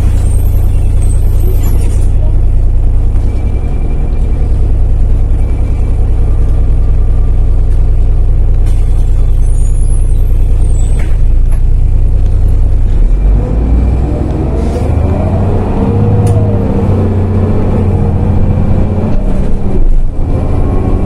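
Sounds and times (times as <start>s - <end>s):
bus engine idling: 0.0s - 21.0s
bus engine revving: 0.0s - 21.0s.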